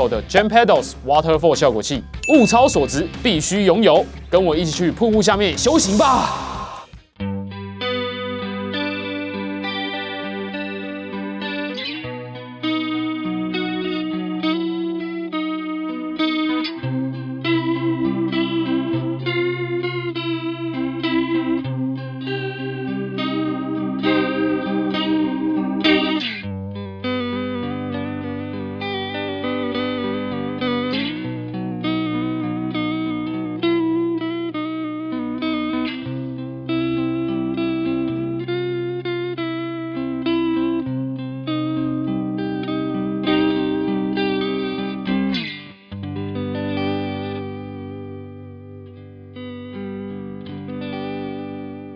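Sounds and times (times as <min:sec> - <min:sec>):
electric guitar with chorus effect: 0:00.0 - 0:51.9.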